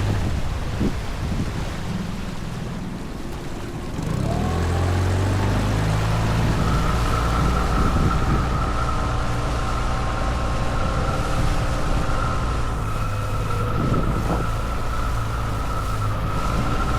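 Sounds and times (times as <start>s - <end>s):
outboard motor running: 0.0s - 16.9s.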